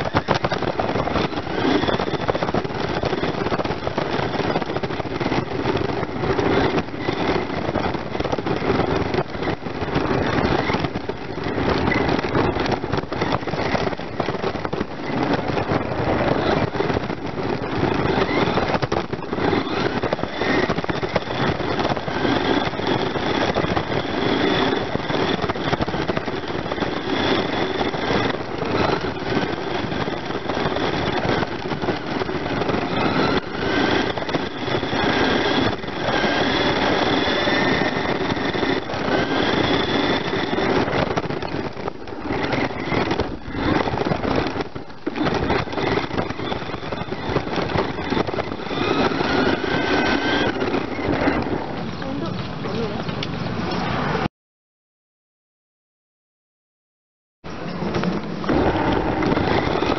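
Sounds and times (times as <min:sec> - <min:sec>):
electric motor whine: 0:00.0 - 0:52.3, 0:57.6 - 0:59.9
wheels rumbling on concrete: 0:00.0 - 0:54.3, 0:57.4 - 0:59.9.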